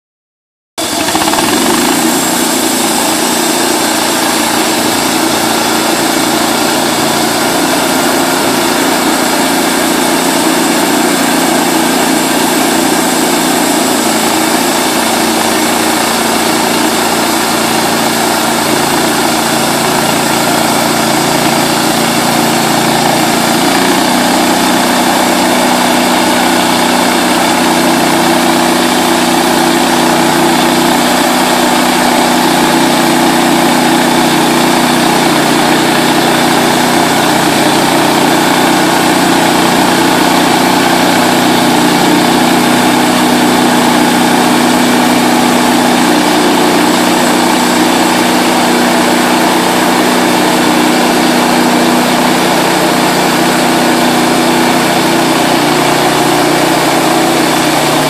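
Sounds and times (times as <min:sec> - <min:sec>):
band saw blade cutting log: 0:00.8 - 0:58.0
gasoline engine running: 0:00.8 - 0:58.0.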